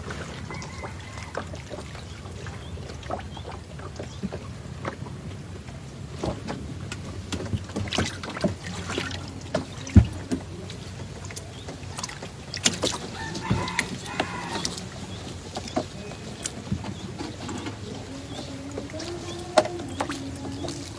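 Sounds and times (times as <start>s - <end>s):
knocks and clatter on wooden boat: 0.0s - 20.9s
low steady hum: 0.0s - 20.9s.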